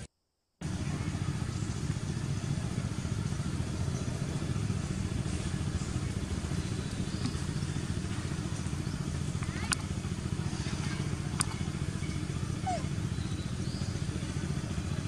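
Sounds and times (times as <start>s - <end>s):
engine running: 0.6s - 15.0s.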